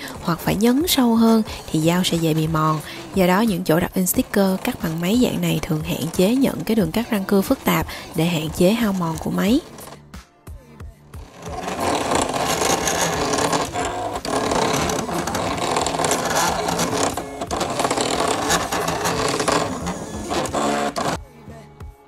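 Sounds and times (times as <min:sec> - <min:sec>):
sticker cutter motors whirring: 0:00.0 - 0:10.0, 0:11.2 - 0:21.2.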